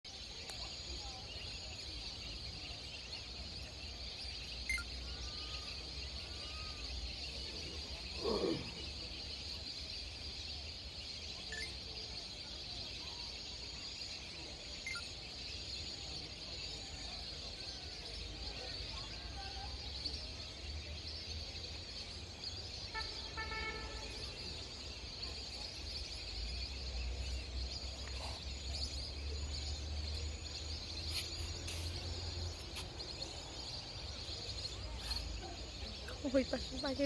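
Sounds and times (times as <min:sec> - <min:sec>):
steady high-pitched hiss: 0:00.1 - 0:37.0.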